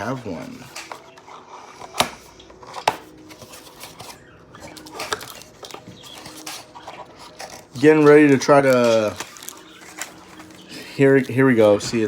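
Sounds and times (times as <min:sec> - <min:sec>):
cardboard packaging rustling: 0:00.0 - 0:12.0.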